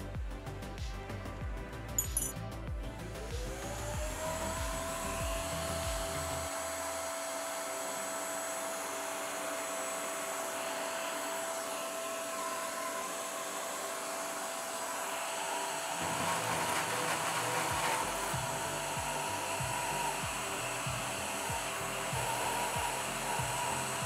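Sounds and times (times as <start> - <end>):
router spindle whining: 3.0 - 24.0.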